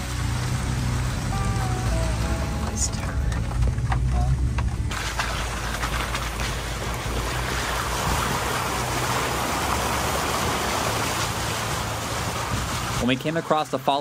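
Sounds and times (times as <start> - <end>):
rain and wet tyres hissing: 0.0 - 3.7, 4.9 - 13.7
low engine hum: 0.0 - 14.0.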